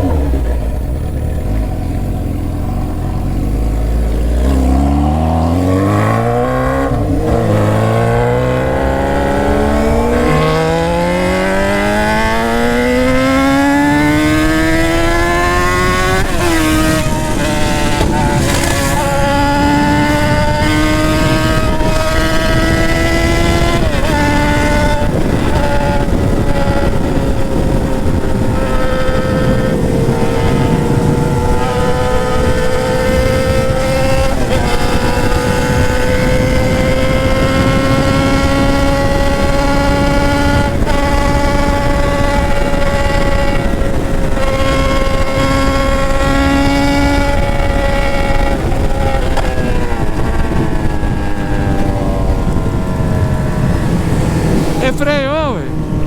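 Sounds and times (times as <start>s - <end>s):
motorcycle engine at high revs: 0.0s - 56.0s
wind rush: 0.0s - 56.0s.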